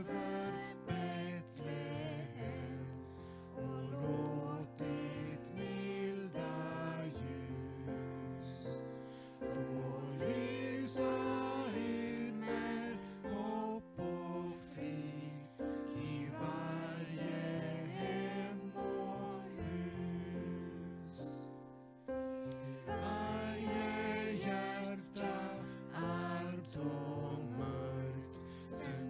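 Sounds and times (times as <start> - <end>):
group singing a hymn: 0.0 - 21.6, 22.3 - 29.0.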